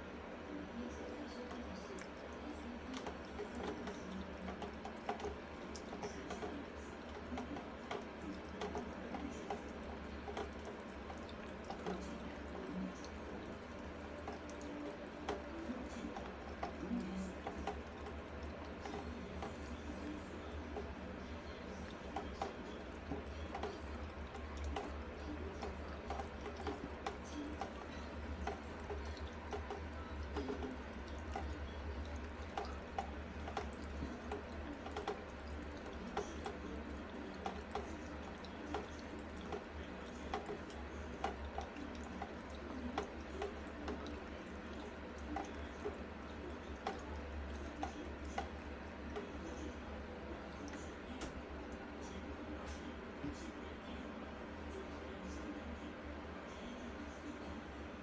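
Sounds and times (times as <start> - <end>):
cat lapping water: 0.9 - 53.4.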